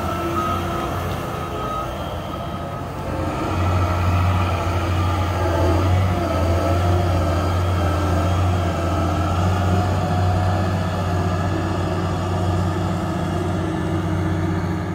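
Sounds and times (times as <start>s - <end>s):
diesel engine humming: 0.0s - 14.9s.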